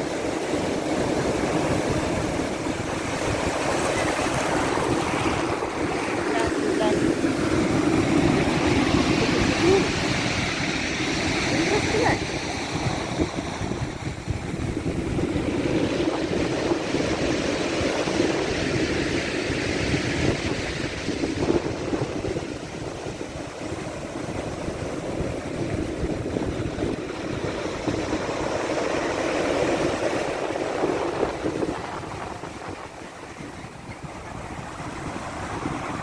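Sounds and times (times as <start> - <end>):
waves washing in: 0.0 - 36.0
wind buffeting microphone: 0.0 - 36.0.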